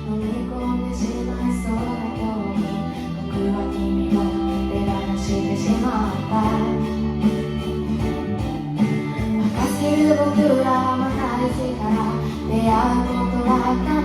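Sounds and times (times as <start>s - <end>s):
woman singing a pop ballad: 0.0s - 8.5s, 9.1s - 14.0s
instrumental backing track: 0.0s - 14.0s.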